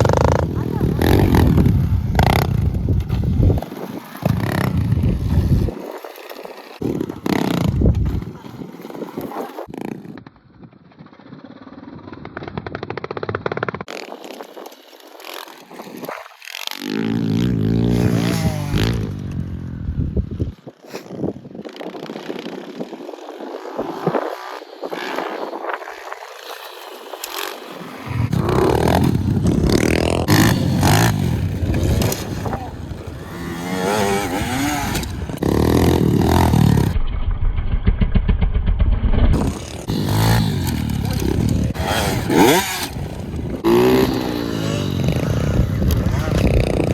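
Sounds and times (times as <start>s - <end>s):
small motorbike engine running: 0.0s - 20.4s, 21.4s - 37.0s, 39.3s - 46.9s
rough riding noise: 0.0s - 46.9s.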